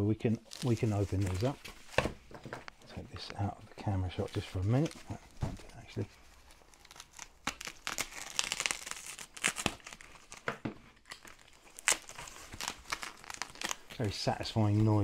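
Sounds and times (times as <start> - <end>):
plastic wrap crinkling and tearing: 0.3 - 15.0.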